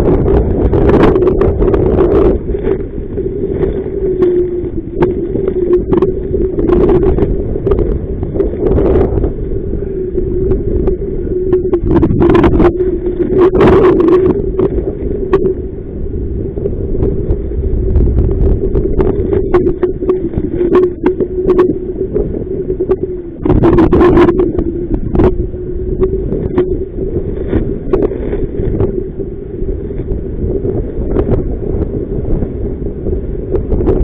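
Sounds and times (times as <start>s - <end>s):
steady hum: 0.0s - 34.0s
water splashing against hull: 0.0s - 34.0s
wind buffeting microphone: 0.0s - 34.0s.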